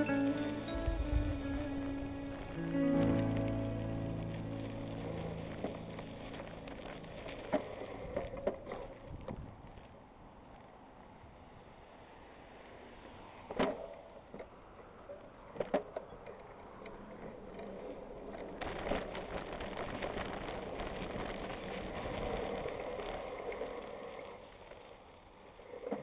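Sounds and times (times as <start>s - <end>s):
bicycle tyres crunching on gravel: 0.0s - 11.2s, 15.4s - 26.0s.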